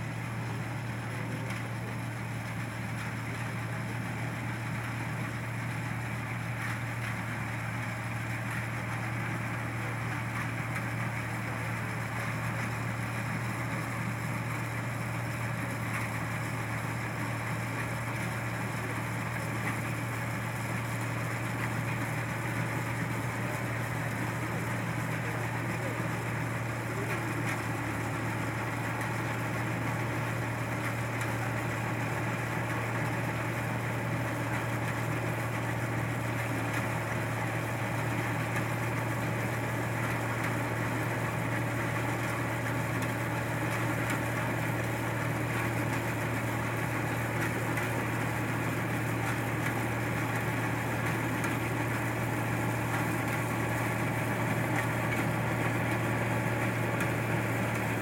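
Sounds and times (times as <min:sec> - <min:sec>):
harvester engine droning: 0:00.0 - 0:58.0.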